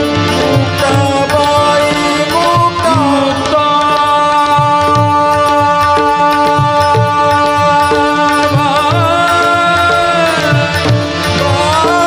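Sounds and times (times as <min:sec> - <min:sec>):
harmonium: 0:00.0 - 0:12.0
man singing devotional song: 0:00.0 - 0:12.0
tabla rhythm: 0:00.0 - 0:12.0.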